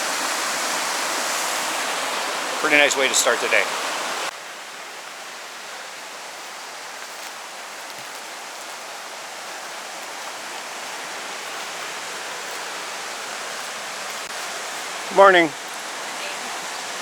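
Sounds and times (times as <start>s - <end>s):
outdoor rushing hiss: 0.0s - 17.0s.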